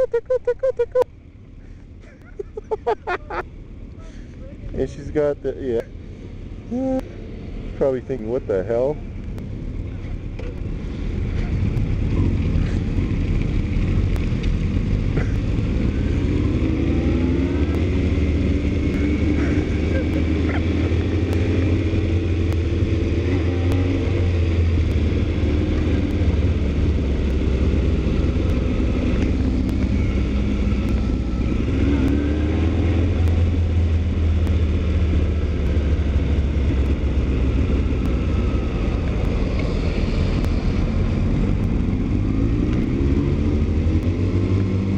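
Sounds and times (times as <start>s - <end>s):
motorcycle engine: 4.4s - 44.9s.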